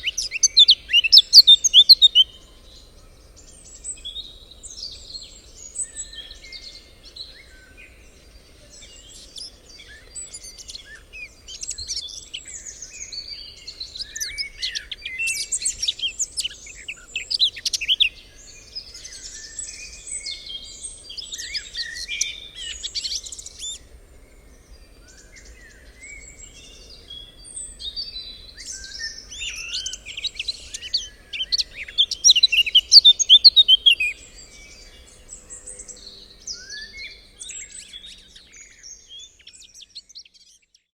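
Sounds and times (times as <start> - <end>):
birds singing and chirping: 0.0 - 40.9.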